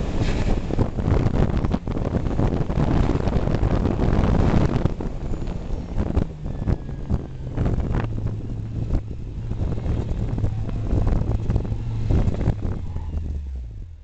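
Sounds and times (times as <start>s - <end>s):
wind buffeting microphone: 0.0s - 14.0s
car engine running: 0.6s - 14.0s.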